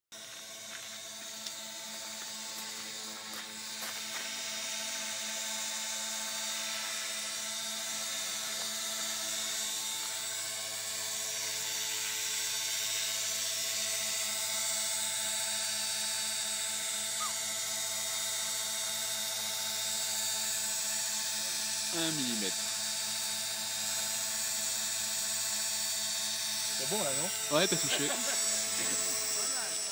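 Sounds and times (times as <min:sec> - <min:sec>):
electric motor whine: 0:00.2 - 0:29.9.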